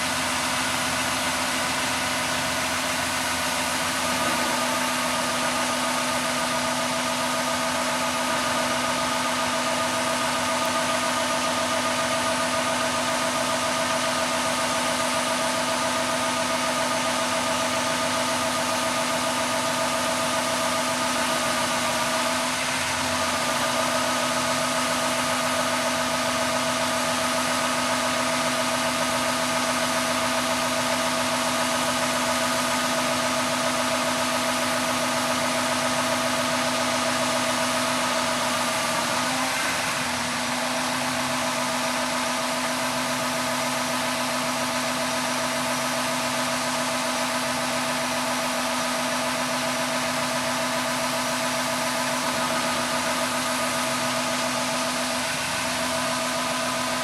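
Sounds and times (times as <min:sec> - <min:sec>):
combine harvester droning: 0:00.0 - 0:57.0.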